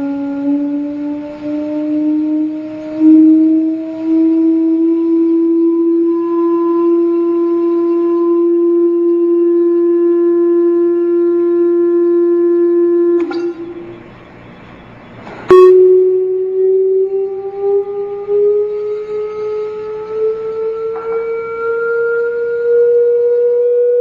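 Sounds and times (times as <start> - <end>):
steady electronic tone: 0.3 - 24.0.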